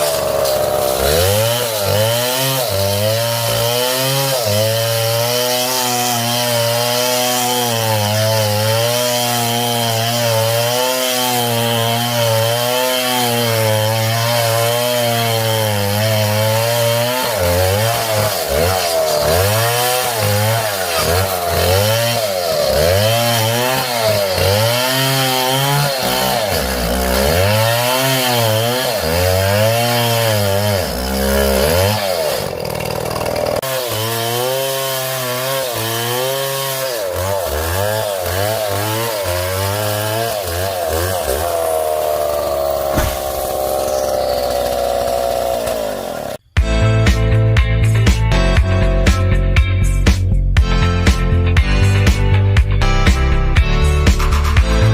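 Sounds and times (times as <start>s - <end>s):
chainsaw cutting wood: 0.0s - 47.4s, 50.1s - 54.9s.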